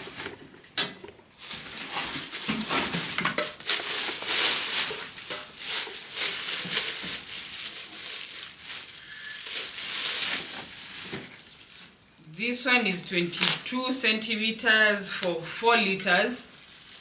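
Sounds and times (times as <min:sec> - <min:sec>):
packaging rustling and crinkling: 0:00.0 - 0:13.8, 0:15.1 - 0:17.0.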